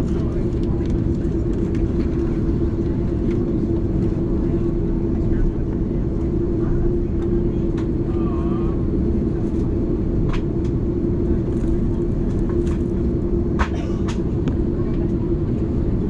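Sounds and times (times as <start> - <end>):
aircraft cabin rumble: 0.0 - 16.0
steady hum: 0.0 - 16.0.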